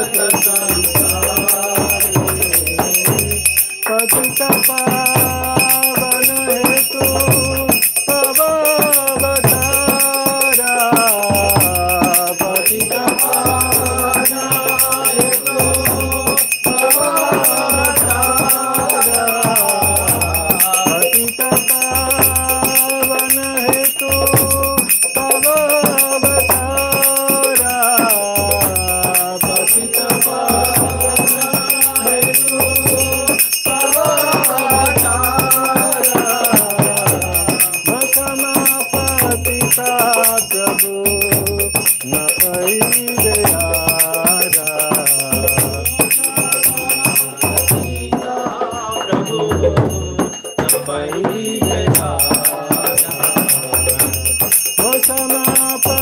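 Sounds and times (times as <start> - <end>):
devotional melody: 0.0 - 56.0
low drum beat: 0.0 - 56.0.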